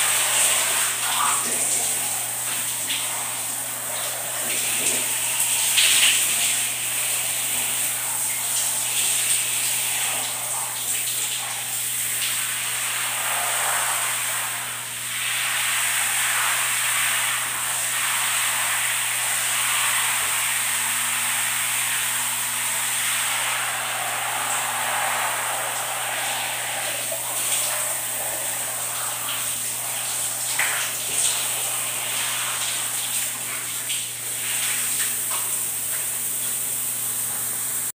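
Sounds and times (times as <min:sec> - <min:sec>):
shower spray running: 0:00.0 - 0:37.9.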